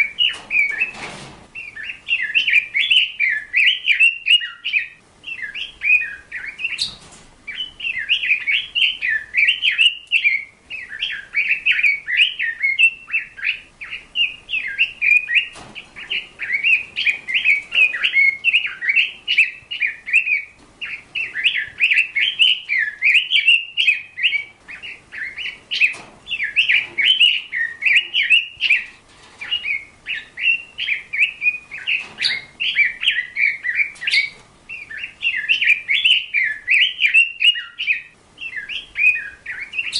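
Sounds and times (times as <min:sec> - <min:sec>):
bird twittering: 0:00.0 - 0:01.0, 0:01.6 - 0:39.9.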